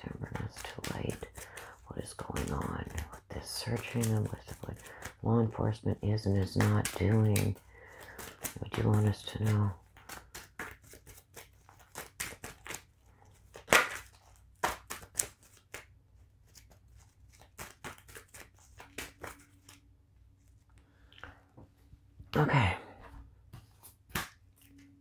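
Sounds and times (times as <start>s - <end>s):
cards being shuffled: 0.0s - 20.7s.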